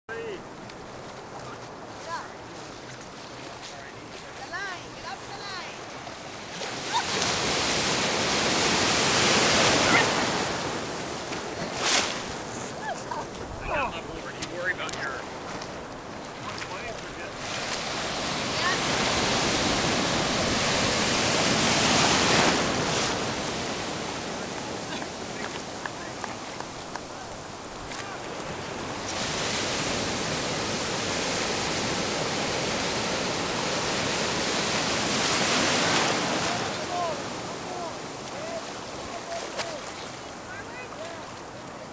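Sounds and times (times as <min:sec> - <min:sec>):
small wave rushing: 0:05.1 - 0:15.5, 0:16.1 - 0:41.6.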